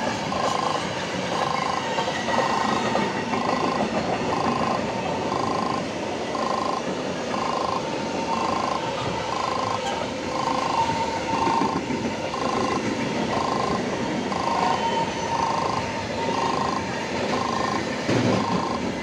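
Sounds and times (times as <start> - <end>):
train wheels running: 0.0 - 19.0
electronic warning beeps: 0.3 - 19.0.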